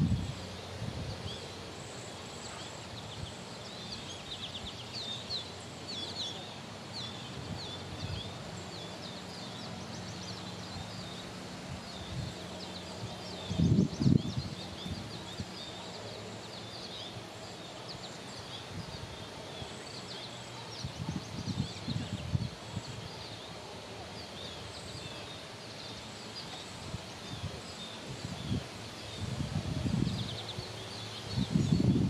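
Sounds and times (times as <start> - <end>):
outdoor background hiss: 0.0 - 32.0
small birds chirping: 0.0 - 32.0.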